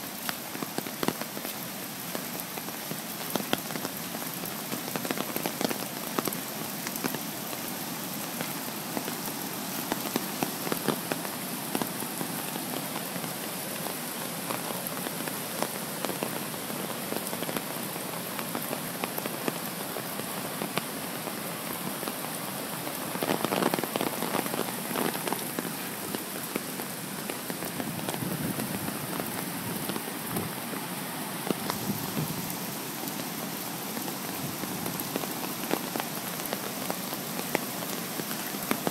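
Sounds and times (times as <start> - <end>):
rain drops ticking: 0.0 - 38.9
rushing flooded stream: 0.0 - 38.9.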